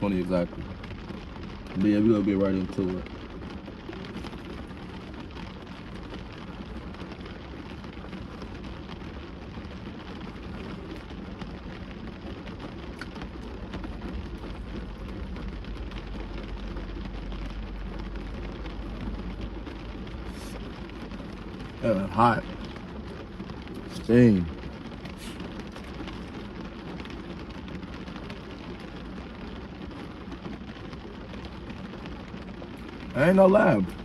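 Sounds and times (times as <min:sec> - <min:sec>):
low rumble: 0:00.0 - 0:34.0
rain on a car roof: 0:00.0 - 0:34.0.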